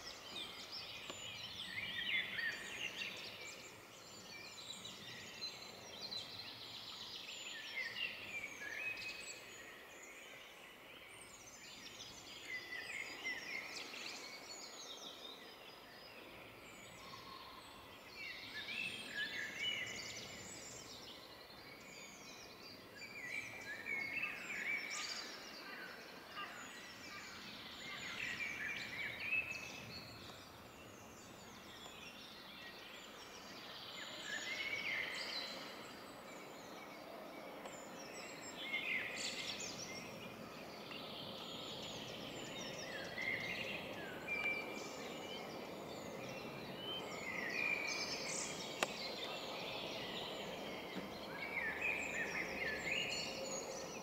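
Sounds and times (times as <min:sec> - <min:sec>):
faint steady background noise: 0:00.0 - 0:54.0
songbirds chirping and trilling: 0:00.0 - 0:54.0.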